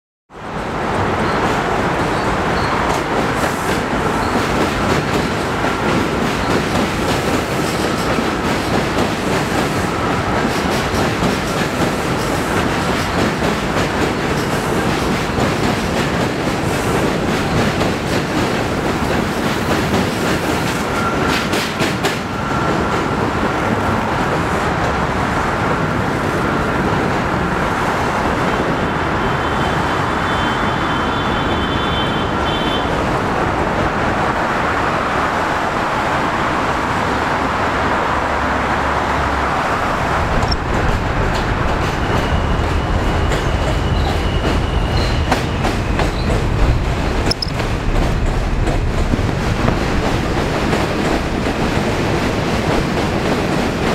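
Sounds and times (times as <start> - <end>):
train rumbling across a steel bridge: 0.3 - 53.9.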